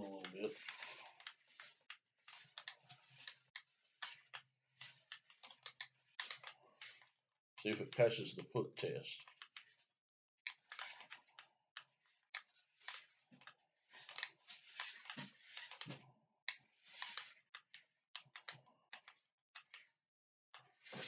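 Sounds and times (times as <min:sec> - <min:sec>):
toy truck electric motor whirring: 0:00.0 - 0:08.2, 0:09.2 - 0:21.0.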